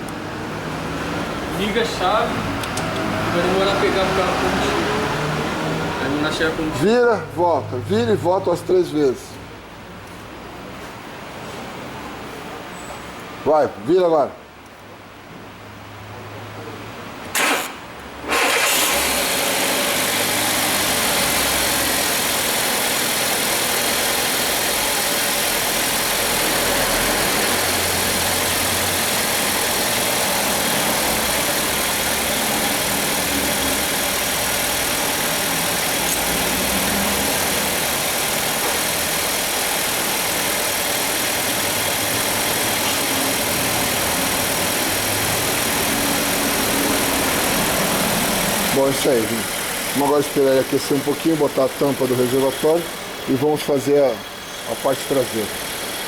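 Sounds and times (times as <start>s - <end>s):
car engine starting and idling: 0.0s - 9.3s, 17.2s - 56.0s.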